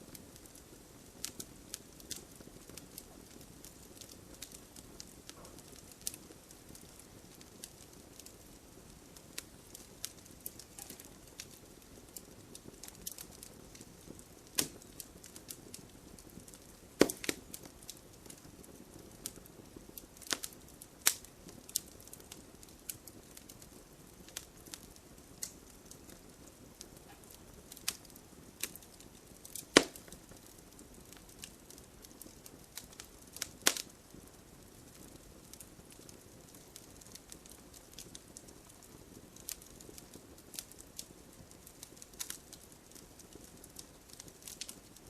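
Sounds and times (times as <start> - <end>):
fire crackles and pops: 0.0 - 45.0
wood fire hissing: 0.0 - 45.0.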